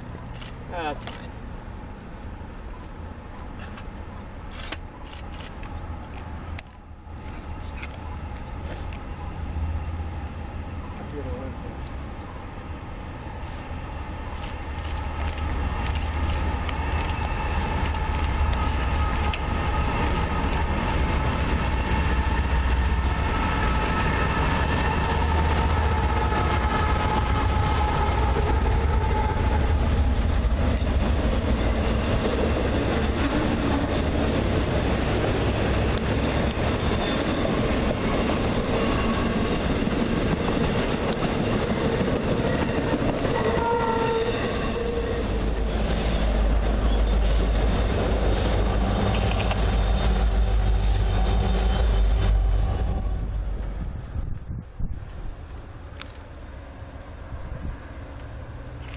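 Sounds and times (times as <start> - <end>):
diesel locomotive rumble: 0.0 - 58.9
wheels rolling on rail: 0.0 - 58.9.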